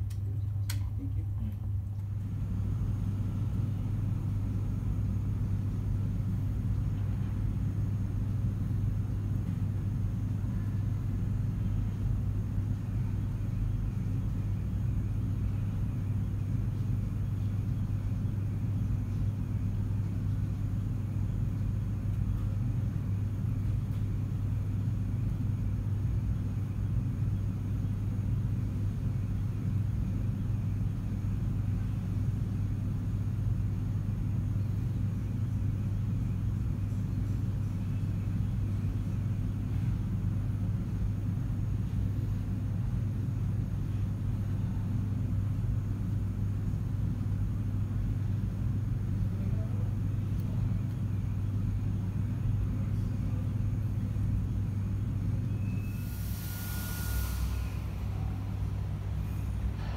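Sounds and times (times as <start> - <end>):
low hum with rumble: 0.0 - 59.9.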